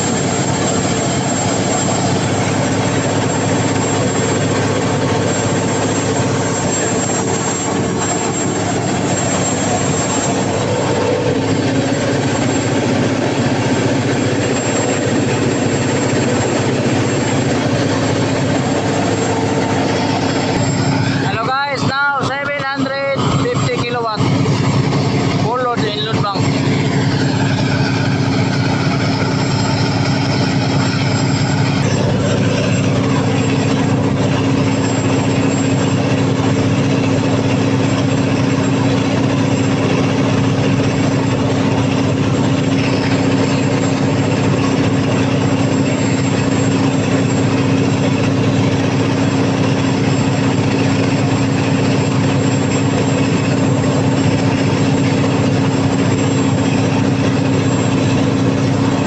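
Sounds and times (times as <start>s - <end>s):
diesel generator engine running: 0.0s - 59.0s.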